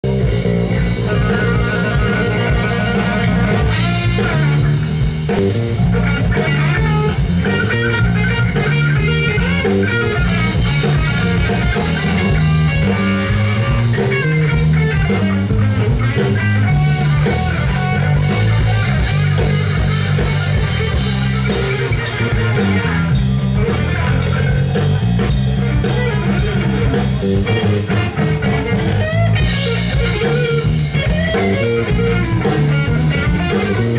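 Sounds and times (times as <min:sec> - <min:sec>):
drum kit: 0:00.0 - 0:33.9
electric bass: 0:00.0 - 0:33.9
electric guitar: 0:00.0 - 0:33.9.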